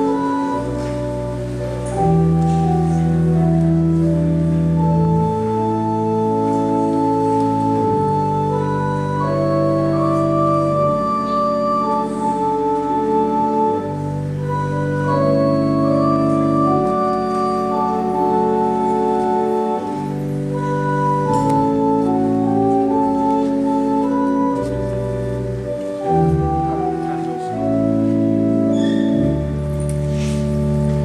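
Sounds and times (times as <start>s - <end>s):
pipe organ playing chords: 0.0s - 31.0s.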